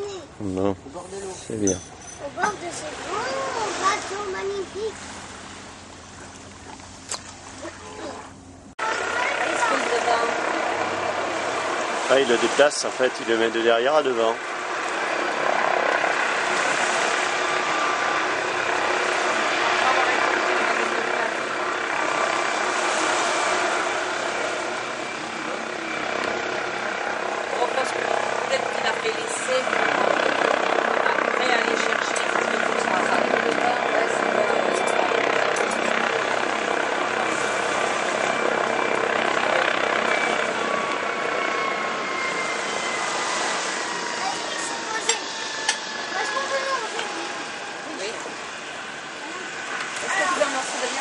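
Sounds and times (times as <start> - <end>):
helicopter hovering: 0.0 - 51.0.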